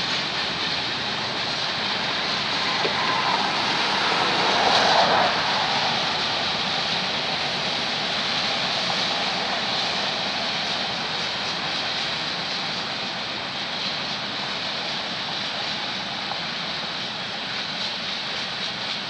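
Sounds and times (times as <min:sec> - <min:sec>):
freight train wheels on rail: 0:00.0 - 0:19.0.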